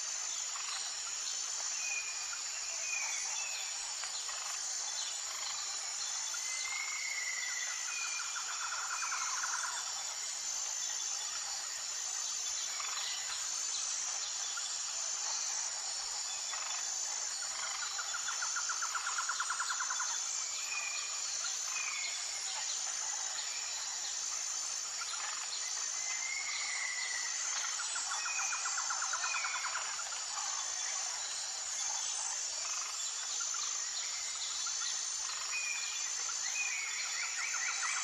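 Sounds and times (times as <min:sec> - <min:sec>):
insect chorus pulsing: 0:00.0 - 0:38.0.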